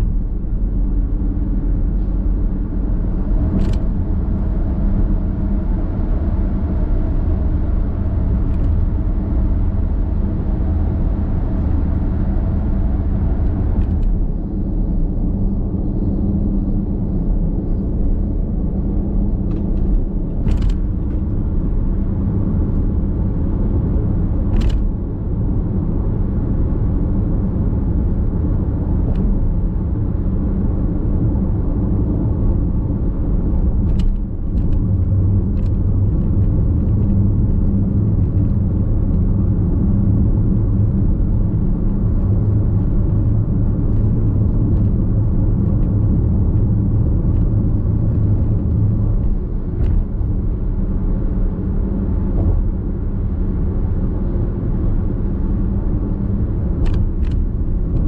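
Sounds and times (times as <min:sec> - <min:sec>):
tyre and road noise rumble: 0:00.0 - 0:58.0.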